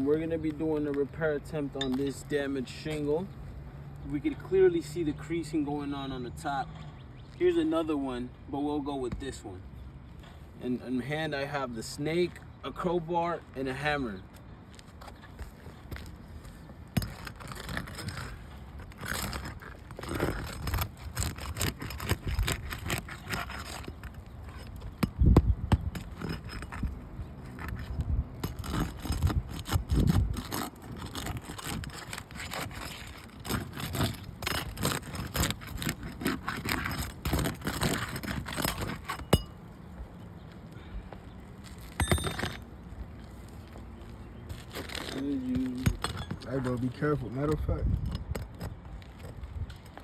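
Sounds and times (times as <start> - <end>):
pry bar scraping shingle: 0.0 - 5.6, 11.8 - 40.2, 40.9 - 50.0.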